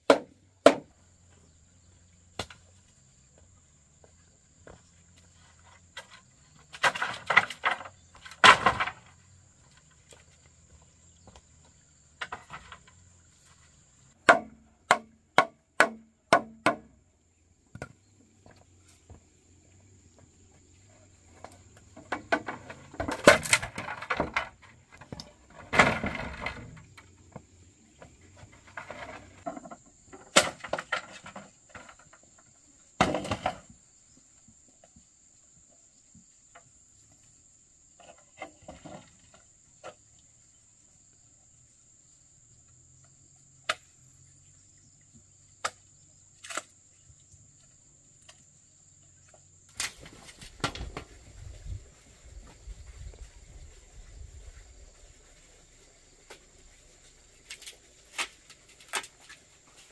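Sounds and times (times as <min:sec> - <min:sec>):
insect droning: 0:00.1 - 0:59.9.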